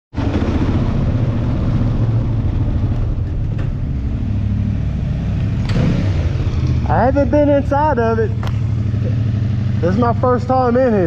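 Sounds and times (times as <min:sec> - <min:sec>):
motorcycle engine running: 0:00.2 - 0:11.0.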